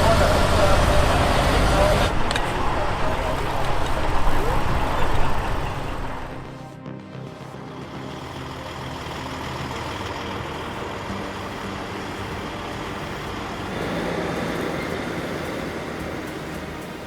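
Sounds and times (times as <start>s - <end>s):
road noise: 0.0s - 17.0s
truck engines under load: 0.0s - 17.0s.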